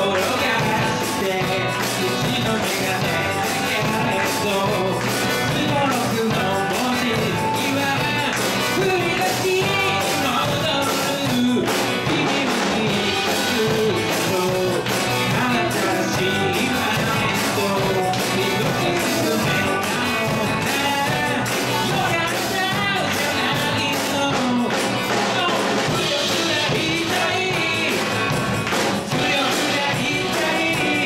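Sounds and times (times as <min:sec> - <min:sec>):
live rock band playing: 0:00.0 - 0:31.0
woman singing: 0:00.0 - 0:31.0.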